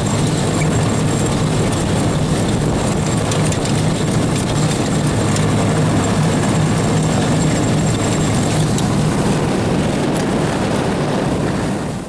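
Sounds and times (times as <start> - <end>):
loud rushing noise: 0.0 - 12.0
snow vehicle engine running: 0.0 - 12.0.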